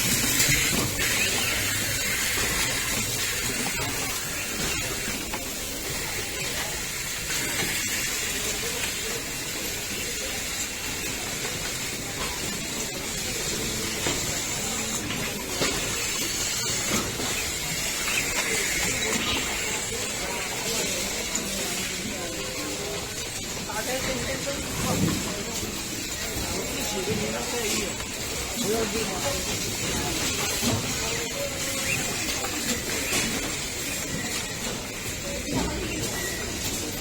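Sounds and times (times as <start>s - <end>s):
factory background hiss: 0.0s - 37.0s.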